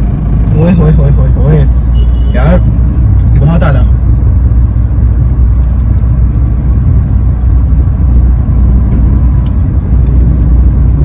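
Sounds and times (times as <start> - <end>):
vehicle rumble inside car cabin: 0.0 - 11.0.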